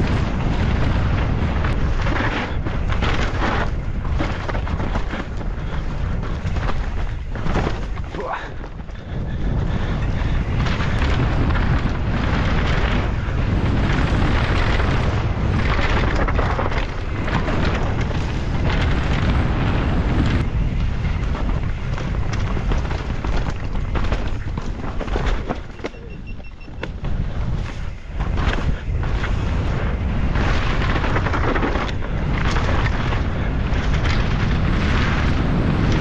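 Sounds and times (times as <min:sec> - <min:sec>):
bike clattering over rough trail: 0:00.0 - 0:36.0
wind buffeting microphone: 0:00.0 - 0:36.0.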